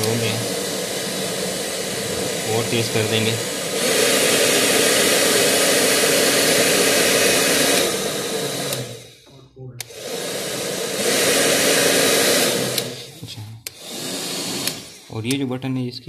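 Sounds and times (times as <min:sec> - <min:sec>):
hair dryer blowing: 0:00.0 - 0:09.2, 0:09.8 - 0:15.5.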